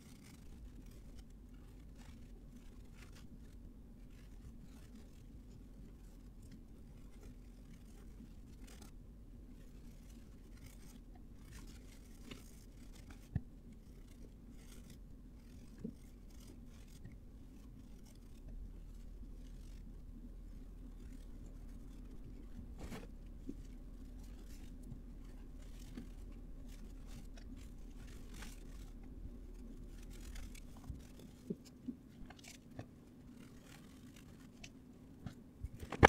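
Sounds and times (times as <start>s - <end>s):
faint scratching and rubbing: 0.0s - 36.0s
steady low hum: 0.0s - 36.0s.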